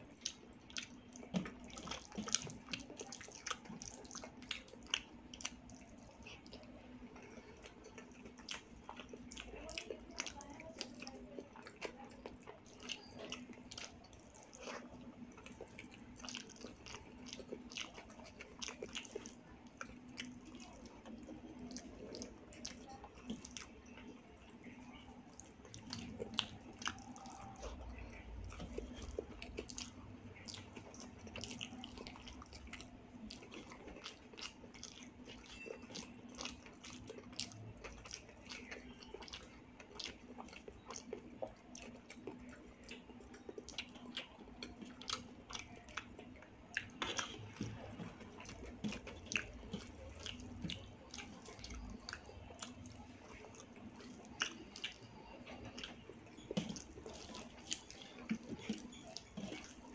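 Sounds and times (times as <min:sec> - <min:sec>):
faint steady hum: 0:00.0 - 0:59.9
wet chewing and mouth smacks: 0:00.0 - 0:59.9.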